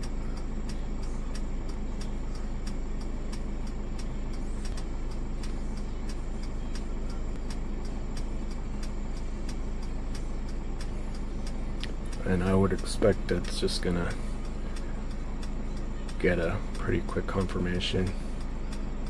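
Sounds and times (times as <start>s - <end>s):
faint regular ticking: 0.0s - 19.0s
vehicle idling hum: 0.0s - 19.0s.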